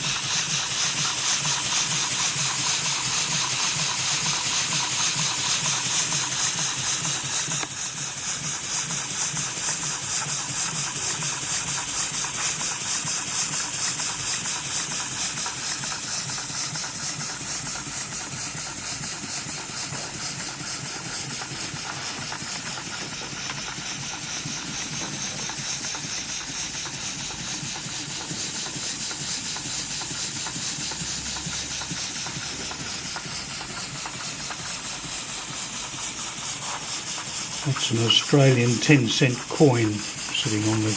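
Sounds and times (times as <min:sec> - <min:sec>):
model steam engine hissing and puffing: 0:00.0 - 0:40.9.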